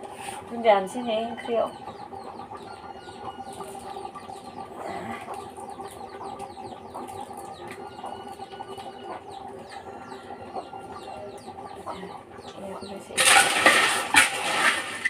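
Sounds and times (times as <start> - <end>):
low hum: 0.0 - 15.0
small birds chirping: 0.2 - 13.2.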